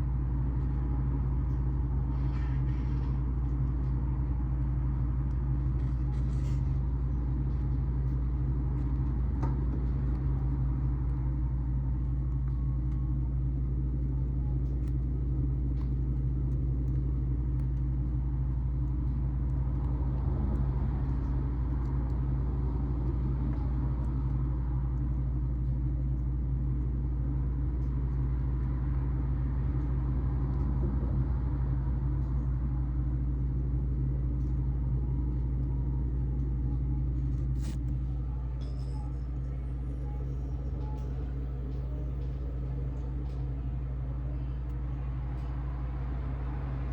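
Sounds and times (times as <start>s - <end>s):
low rumble: 0.0s - 46.9s.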